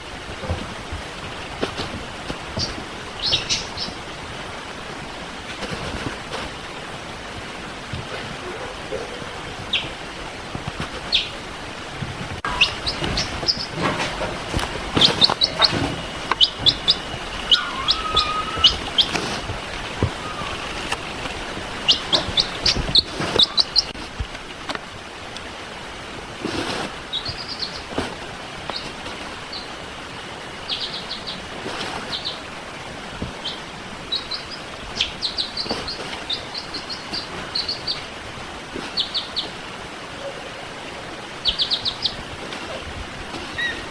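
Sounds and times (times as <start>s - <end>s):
steady background hiss: 0.0s - 43.9s
baby chicks peeping: 0.3s - 4.2s, 8.0s - 11.6s, 12.2s - 24.8s, 26.4s - 29.8s, 30.6s - 32.5s, 33.2s - 43.9s.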